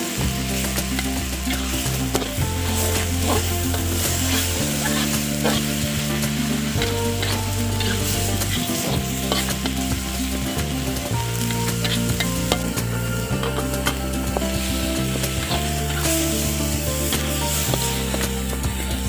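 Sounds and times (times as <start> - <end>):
meat sizzling in a wok: 0.0 - 19.0
metal spatula scraping a pan: 0.1 - 19.0.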